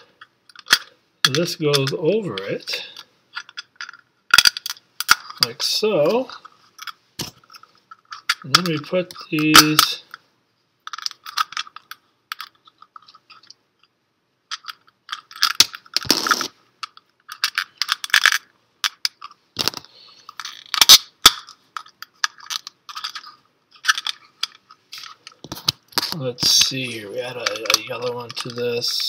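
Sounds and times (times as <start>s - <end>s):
plastic bricks clicking and rattling: 0.5s - 10.2s, 10.9s - 13.6s, 14.5s - 29.0s.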